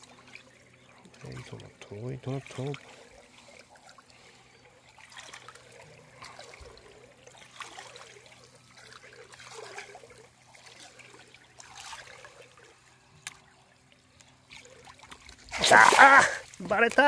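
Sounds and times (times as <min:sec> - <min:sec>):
fish splashing at water surface: 0:02.2 - 0:17.0.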